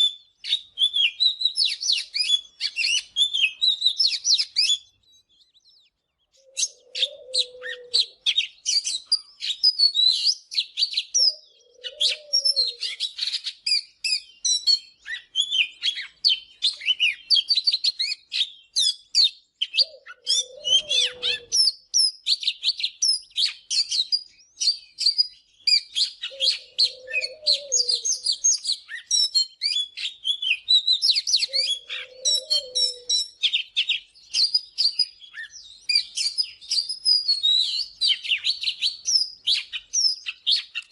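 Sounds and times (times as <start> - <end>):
songbird whistles and chirps: 0.0 - 40.9.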